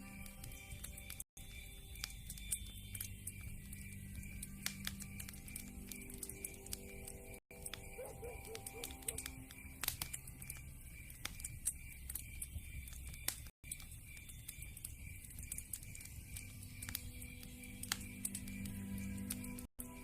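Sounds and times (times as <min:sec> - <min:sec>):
faint music notes: 0:00.0 - 0:20.0
low rumble of flames: 0:00.0 - 0:20.0
wood fire crackling: 0:00.0 - 0:20.0.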